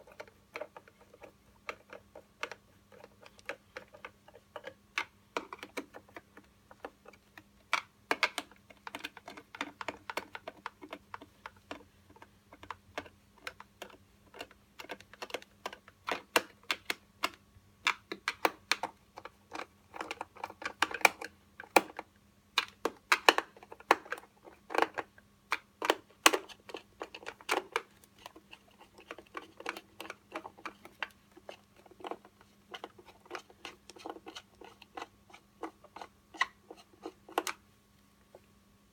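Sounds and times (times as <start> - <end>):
small clicks and taps on plastic: 0.0 - 37.6
faint steady hum: 0.0 - 38.9.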